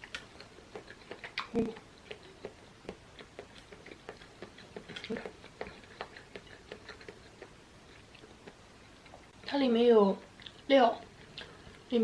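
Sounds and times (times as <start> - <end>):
chewing with mouth clicks: 0.0 - 9.4, 10.3 - 12.0.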